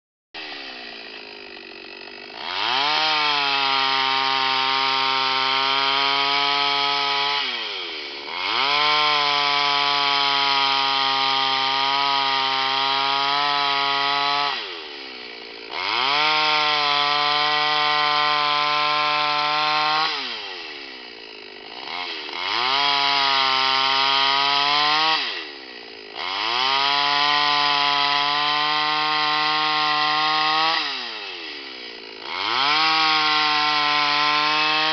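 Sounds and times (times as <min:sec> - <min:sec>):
chainsaw ripping a log: 0:00.4 - 0:34.9.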